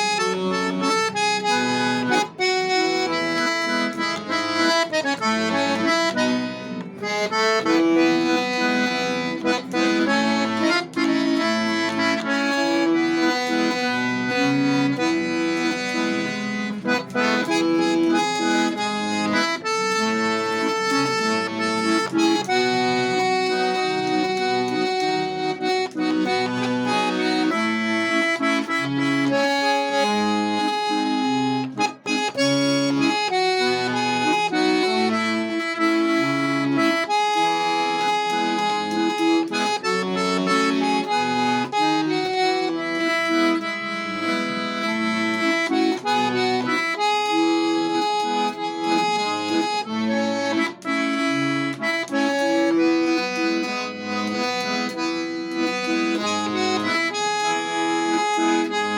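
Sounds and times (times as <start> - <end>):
accordion playing a melody: 0.0 - 58.9.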